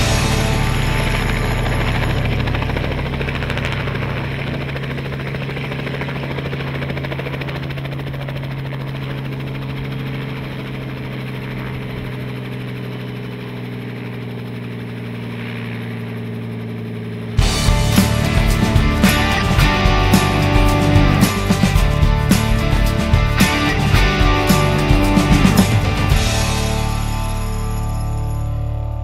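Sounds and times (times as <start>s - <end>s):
helicopter rotor beating: 0.0s - 29.0s
low engine drone: 0.0s - 29.0s.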